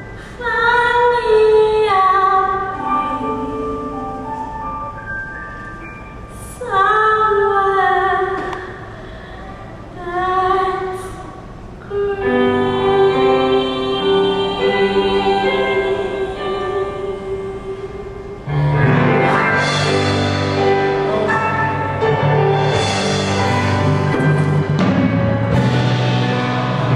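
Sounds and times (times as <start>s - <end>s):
musical accompaniment: 0.0s - 7.5s, 11.9s - 26.9s
musical theatre singing: 0.0s - 26.9s.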